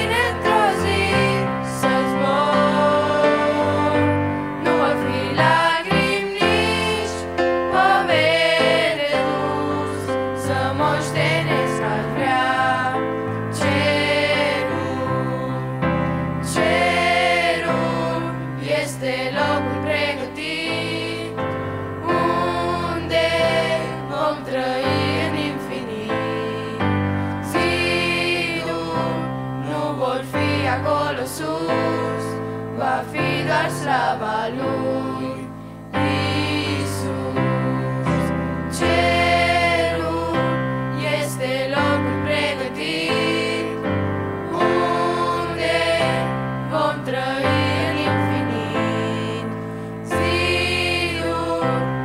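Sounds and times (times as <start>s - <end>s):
keyboard accompaniment: 0.0s - 52.0s
youth group singing a hymn: 0.0s - 52.0s.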